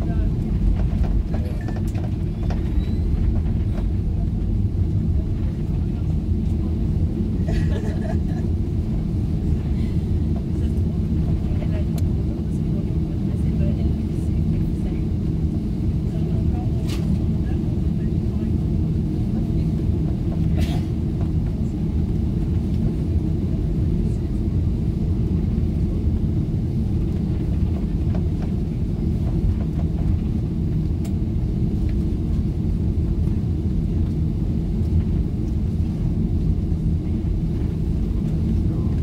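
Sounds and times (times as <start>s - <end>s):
jet cabin low rumble: 0.0s - 39.0s.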